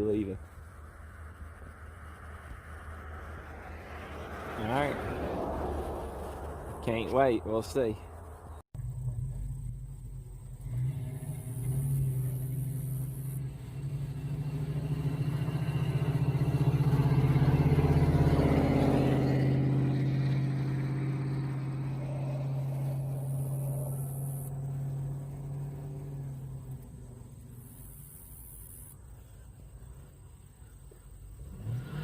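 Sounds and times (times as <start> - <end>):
car engine driving past: 0.0 - 32.0.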